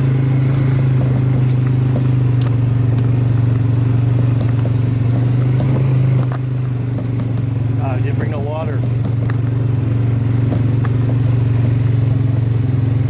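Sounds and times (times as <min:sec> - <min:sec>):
chainsaw engine droning: 0:00.0 - 0:13.0.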